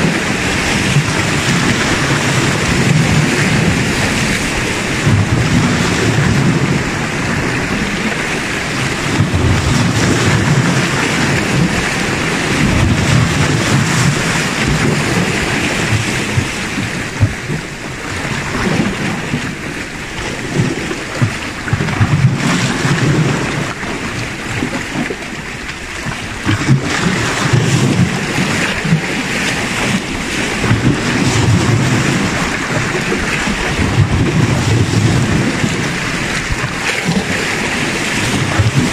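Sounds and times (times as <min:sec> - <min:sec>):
small waves splashing on rocks: 0:00.0 - 0:38.9
wind buffeting microphone: 0:00.0 - 0:38.9.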